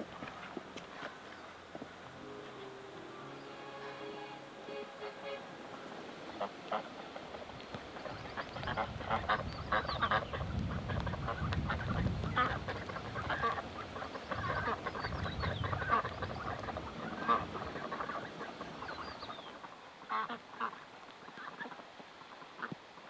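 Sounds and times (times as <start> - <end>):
ducks quacking: 0.0 - 21.8.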